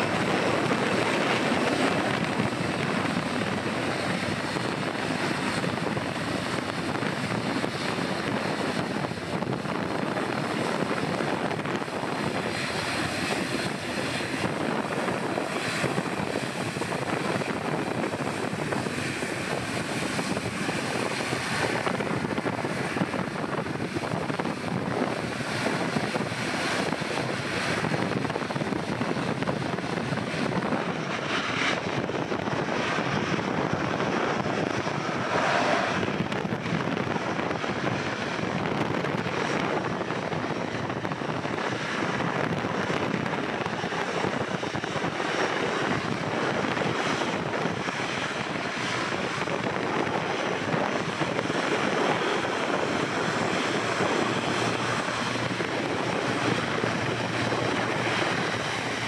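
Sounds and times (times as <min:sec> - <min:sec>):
airliner engines running: 0:00.0 - 0:59.0.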